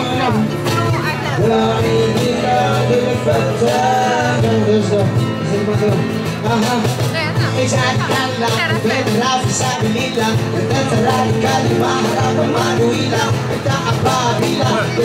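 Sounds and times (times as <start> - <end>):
man singing into a microphone: 0.0 - 15.0
strummed acoustic guitars: 0.0 - 15.0.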